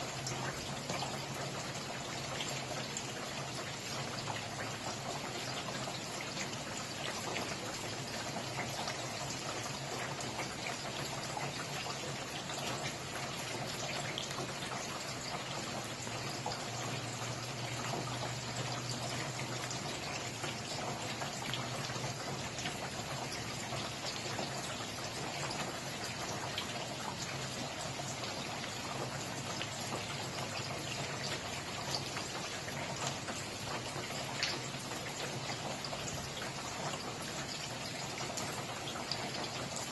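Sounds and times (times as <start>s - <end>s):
rain falling: 0.0s - 39.9s
raindrops ticking: 0.0s - 39.9s.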